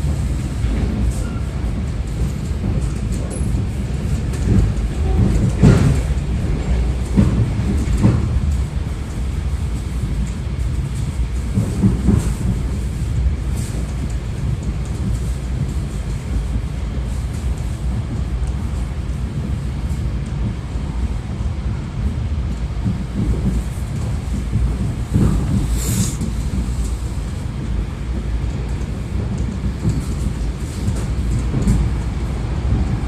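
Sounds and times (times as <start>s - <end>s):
train wheels rumbling on track: 0.0s - 33.0s.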